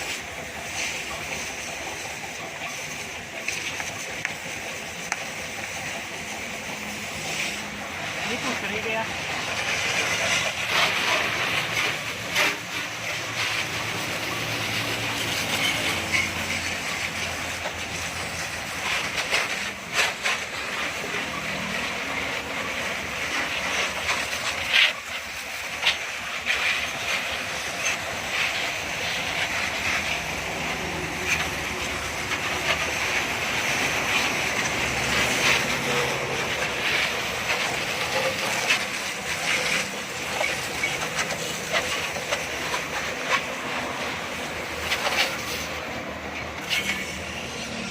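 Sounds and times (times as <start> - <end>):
water spray hissing: 0.0 - 47.9.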